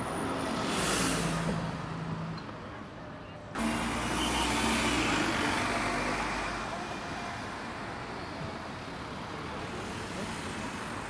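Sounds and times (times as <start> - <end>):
street traffic road noise: 0.0 - 11.0.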